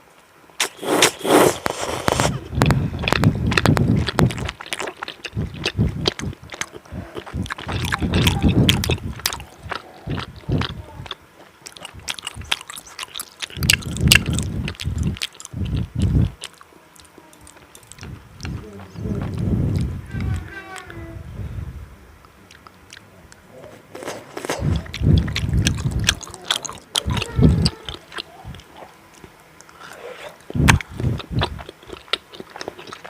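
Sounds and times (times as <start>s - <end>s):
loud bite: 0.6s - 18.6s, 22.2s - 33.0s
chewing with wet mouth clicks: 2.1s - 21.0s, 22.2s - 33.0s.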